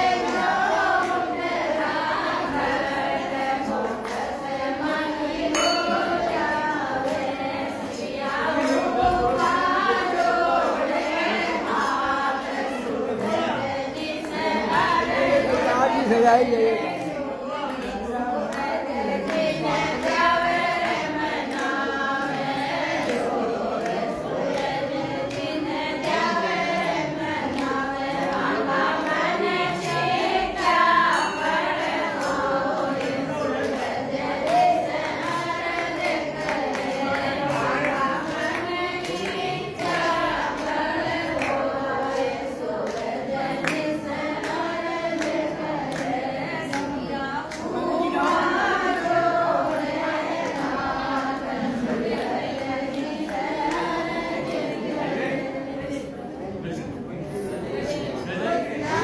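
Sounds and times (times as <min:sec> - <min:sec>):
crowd singing in unison: 0:00.0 - 0:59.0.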